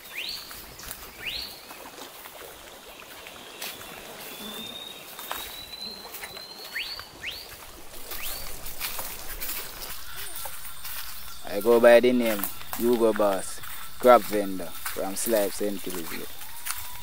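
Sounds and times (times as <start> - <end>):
birds whistling: 0.0 - 1.7, 3.0 - 17.0
footsteps on dry leaves: 0.0 - 17.0.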